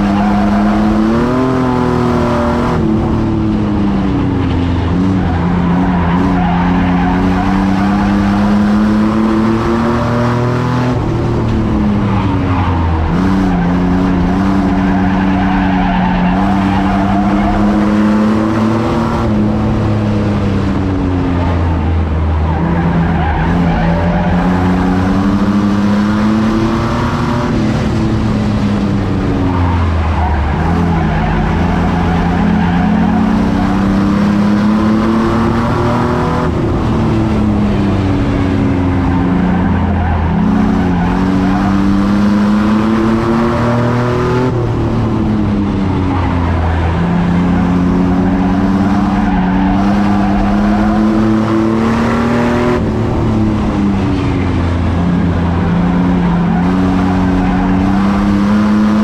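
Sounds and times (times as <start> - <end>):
race truck engine revving: 0.0 - 59.0
road and tyre noise: 0.0 - 59.0.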